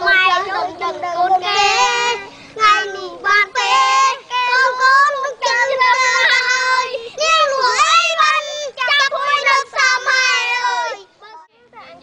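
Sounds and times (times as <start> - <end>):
boys singing unaccompanied: 0.0 - 12.0.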